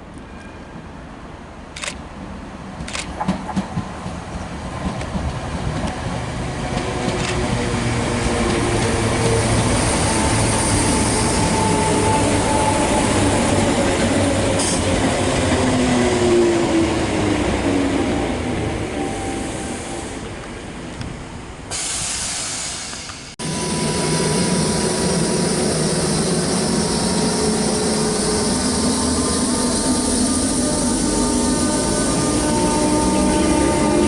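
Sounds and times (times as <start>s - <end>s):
passenger train running past: 0.0s - 34.0s.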